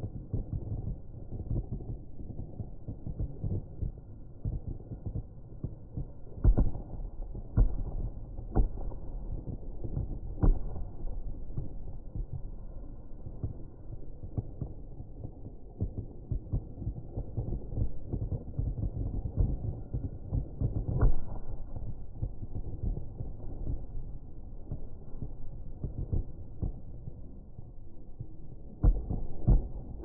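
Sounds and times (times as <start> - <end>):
fireworks booming: 0.0 - 30.0
loud fireworks bangs: 0.0 - 30.0.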